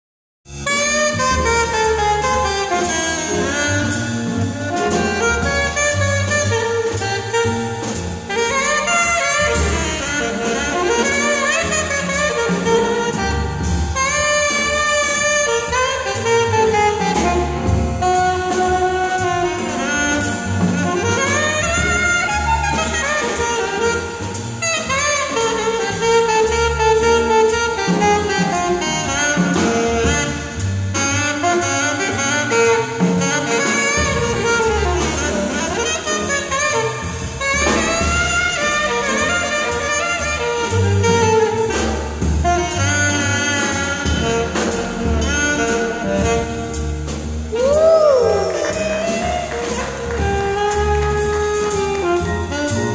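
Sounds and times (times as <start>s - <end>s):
alto saxophone solo: 0.5s - 52.9s
double bass: 0.5s - 52.9s
drum kit: 0.5s - 52.9s.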